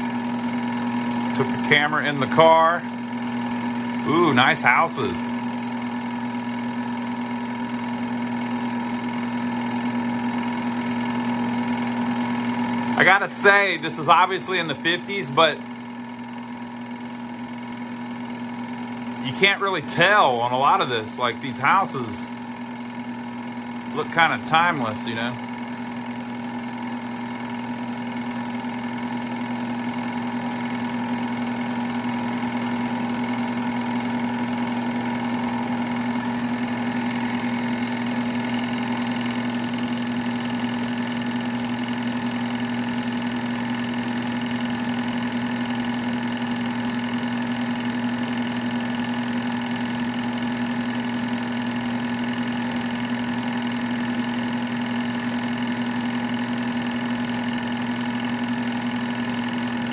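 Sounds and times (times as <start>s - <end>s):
film projector motor whirring: 0.0s - 59.9s.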